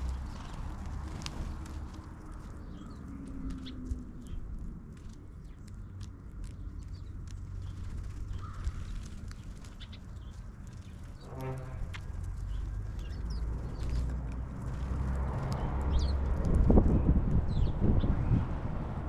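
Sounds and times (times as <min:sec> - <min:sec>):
birds chirping: 0:00.0 - 0:18.4
steady low rumble: 0:00.0 - 0:19.0.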